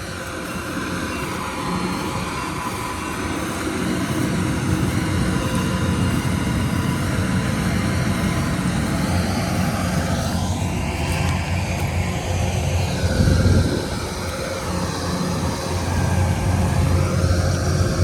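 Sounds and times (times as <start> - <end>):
large farm machine engine: 0.0 - 18.0
machine whine: 0.0 - 18.0.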